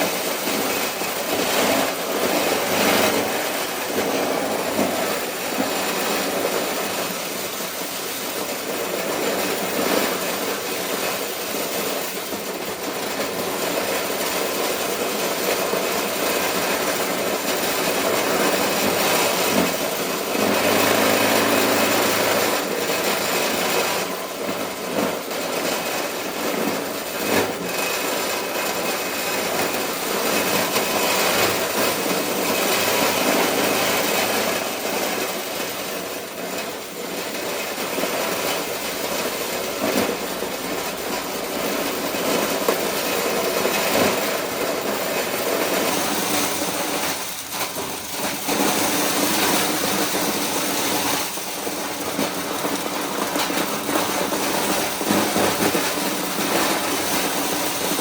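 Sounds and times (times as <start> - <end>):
corn sheller clattering: 0.0 - 58.0.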